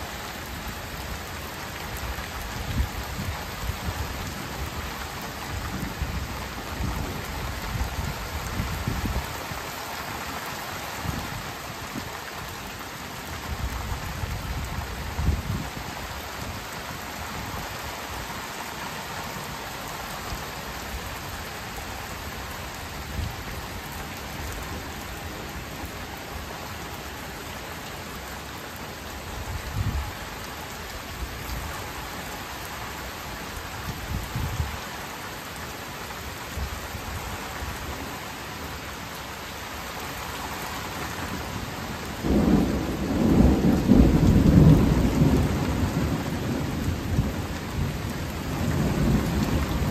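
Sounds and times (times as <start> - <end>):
steady rain falling on trees: 0.0 - 49.9.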